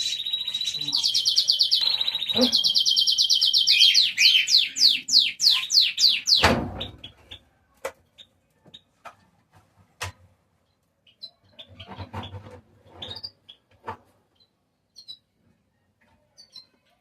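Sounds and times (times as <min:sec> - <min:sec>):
songbirds singing: 0:00.0 - 0:08.9, 0:10.6 - 0:17.0.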